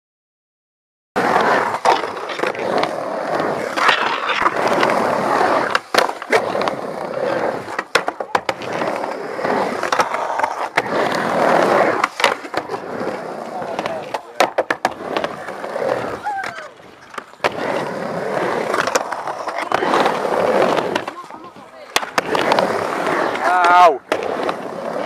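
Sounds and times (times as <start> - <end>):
skateboard clacks: 1.2 - 25.0
skateboard wheels rolling on concrete: 1.2 - 25.0.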